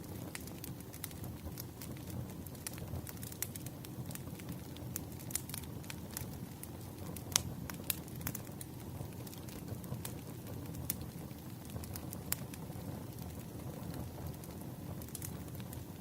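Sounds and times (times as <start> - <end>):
logs burning and crackling: 0.0 - 16.0.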